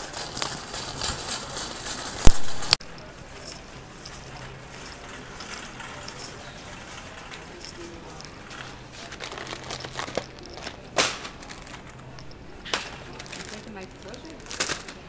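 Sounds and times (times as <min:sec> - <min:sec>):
packaging rustling and rattles: 0:00.0 - 0:15.0.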